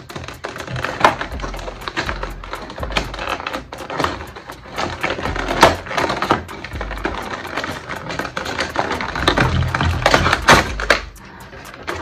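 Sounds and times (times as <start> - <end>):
plastic blister pack crackling: 0.0 - 12.0.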